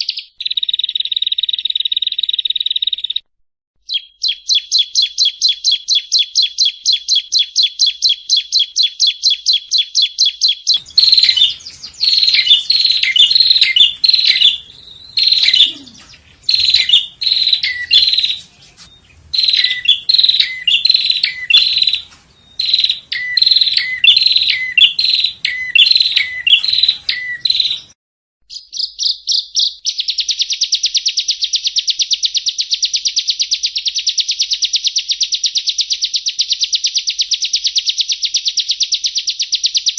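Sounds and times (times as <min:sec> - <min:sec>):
bird chirping phrases: 0:00.0 - 0:39.9
bird trilling: 0:03.9 - 0:39.9
fast buzzy bird trill: 0:03.9 - 0:39.9.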